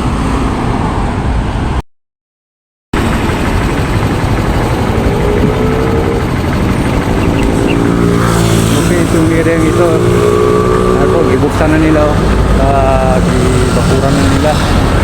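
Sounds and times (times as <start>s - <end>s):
vehicle engine rumbling: 3.0s - 15.0s.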